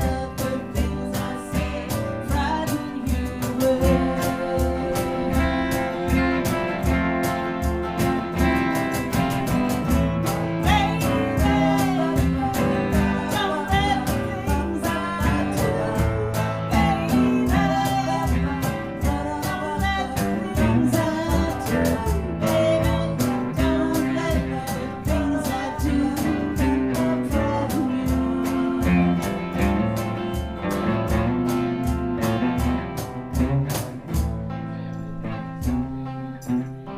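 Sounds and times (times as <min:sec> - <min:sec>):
live guitar music strummed: 0:00.0 - 0:36.9.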